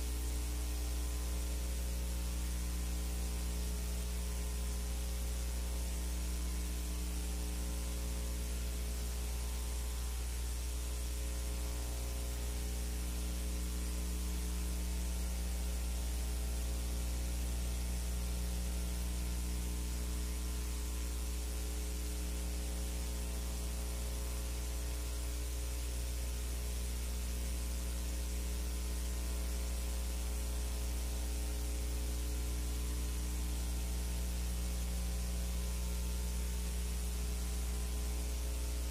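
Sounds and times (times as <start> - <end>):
electrical hum: 0.0 - 38.9
steady hiss: 0.0 - 38.9.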